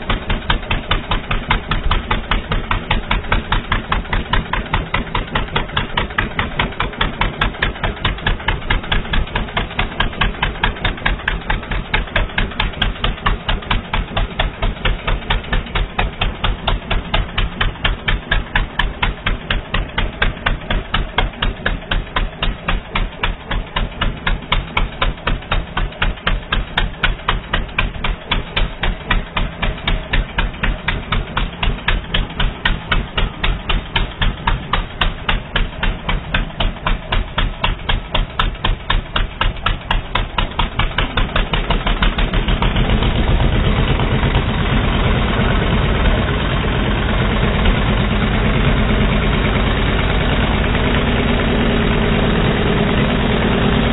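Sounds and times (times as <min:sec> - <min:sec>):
atv engine idling: 0:00.0 - 0:53.9.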